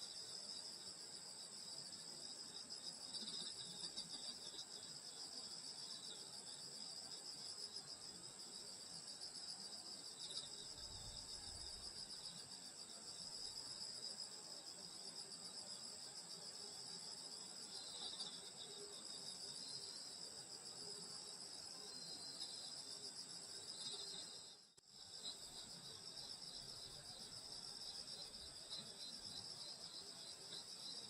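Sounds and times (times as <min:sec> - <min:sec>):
crickets chirping: 0:00.0 - 0:31.0.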